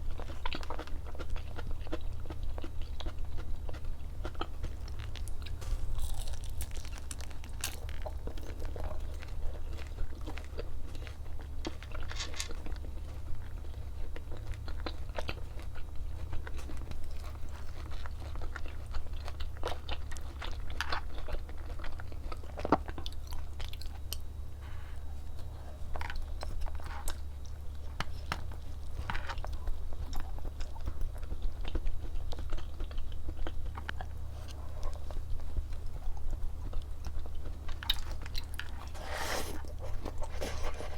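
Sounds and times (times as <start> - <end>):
person chewing crunchy food: 0.0 - 40.9
steady low hum: 0.0 - 40.9.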